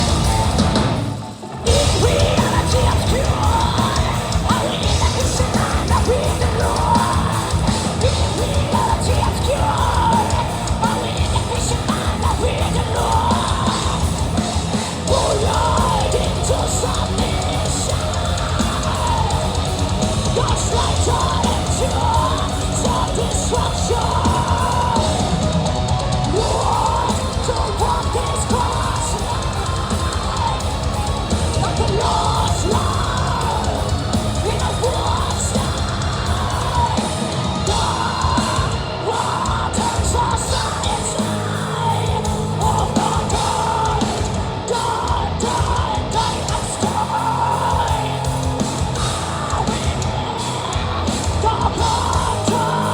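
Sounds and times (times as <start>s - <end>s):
heavy metal band playing: 0.0s - 52.9s
woman singing and screaming: 1.6s - 52.9s.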